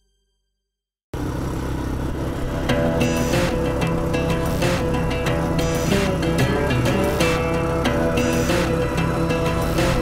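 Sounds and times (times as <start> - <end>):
atv engine running: 1.2 - 10.0.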